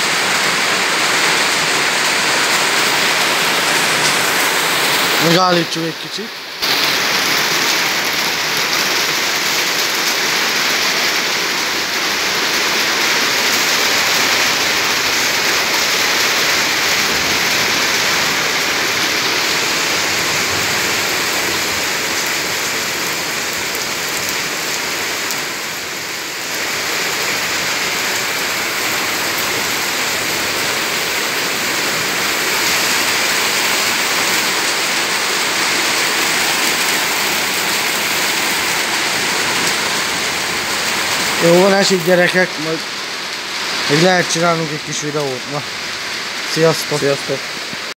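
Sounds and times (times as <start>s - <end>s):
heavy rain on concrete and roofs: 0.0s - 47.9s.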